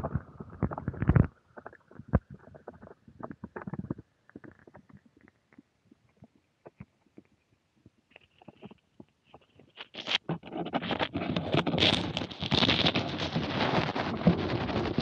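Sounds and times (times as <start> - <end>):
underwater scratching and clicking: 0.0 - 15.0.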